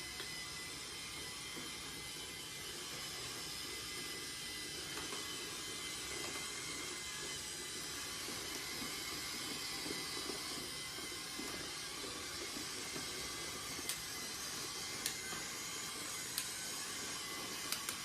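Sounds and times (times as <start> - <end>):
toy train motor whirring: 0.0 - 18.0.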